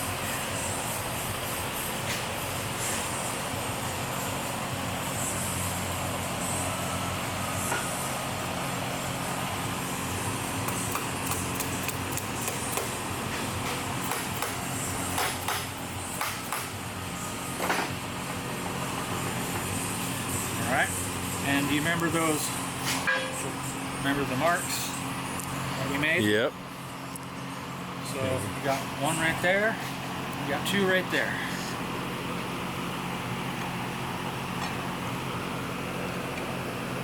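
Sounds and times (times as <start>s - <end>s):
mechanical hum: 0.0s - 37.0s.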